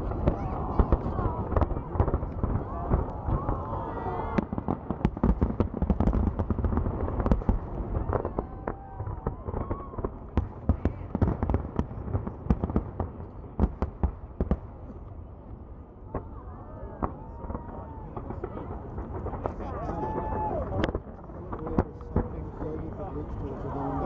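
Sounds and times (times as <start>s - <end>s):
fireworks bursting with sharp bangs: 0.0s - 24.0s.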